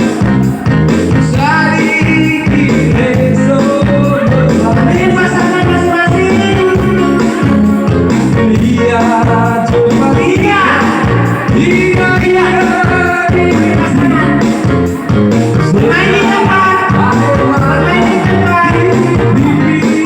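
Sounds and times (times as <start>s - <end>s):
song with singing and bass beat: 0.0s - 20.0s.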